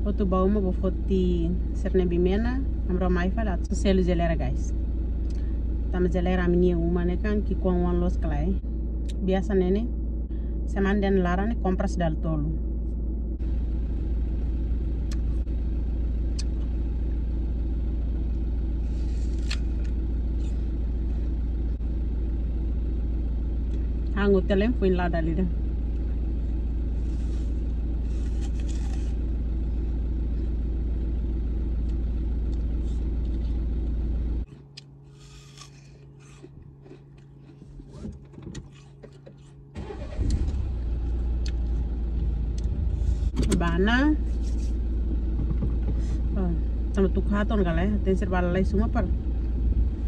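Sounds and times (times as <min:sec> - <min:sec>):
steady low hum: 0:00.0 - 0:50.0
vehicle engine rumble: 0:00.0 - 0:50.0.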